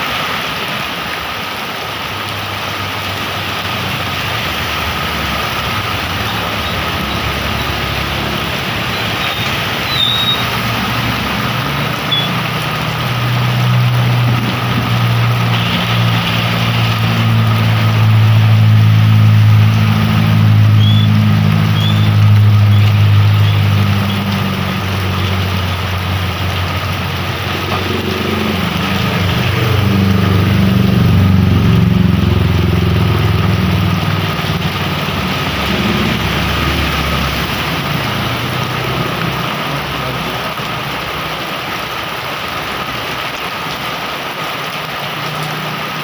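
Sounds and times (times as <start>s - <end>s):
heavy rain hiss: 0.0s - 46.0s
vehicle engine hum: 0.0s - 46.0s.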